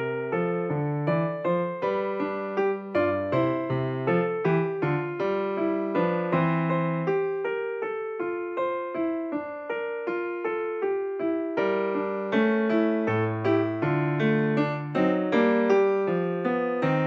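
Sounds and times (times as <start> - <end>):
gentle keyboard melody: 0.0 - 17.0.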